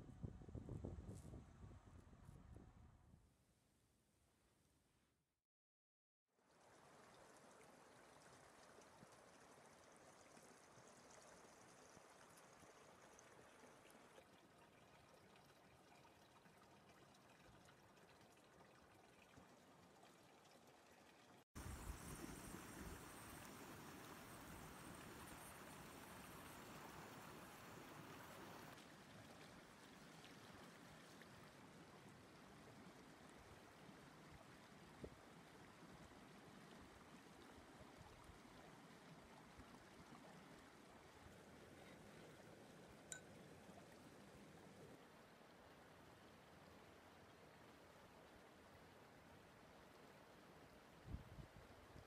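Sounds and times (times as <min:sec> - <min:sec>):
shallow river flowing around rocks: 0:06.3 - 0:52.0.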